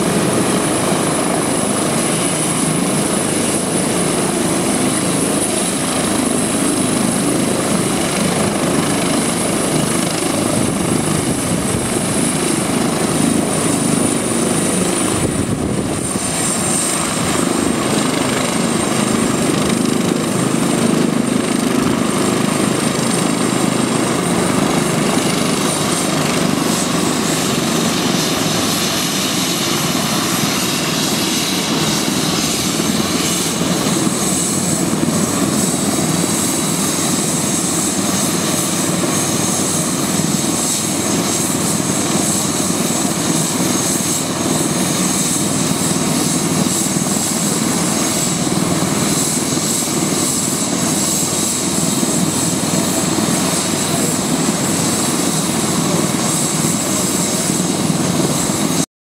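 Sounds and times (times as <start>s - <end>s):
helicopter rotor noise: 0.0s - 58.9s.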